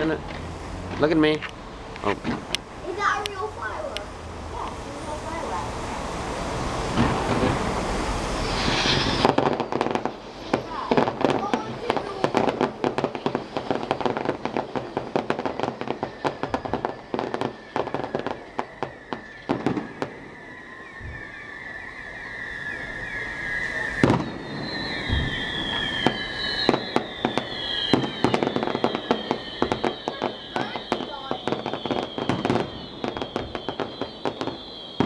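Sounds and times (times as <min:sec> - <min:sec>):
fireworks crackling and popping: 0:00.0 - 0:35.0
high whistling firework: 0:00.0 - 0:35.0
loud firework bang: 0:00.0 - 0:35.0.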